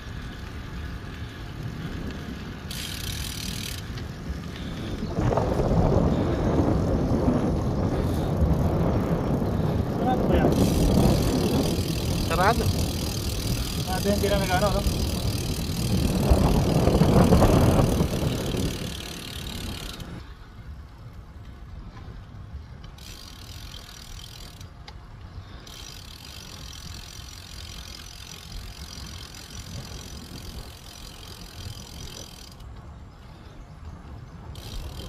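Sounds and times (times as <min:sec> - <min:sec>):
bicycle freehub ticking: 0:00.0 - 0:35.0
road noise: 0:00.0 - 0:35.0
wind rumble on microphone: 0:00.0 - 0:35.0.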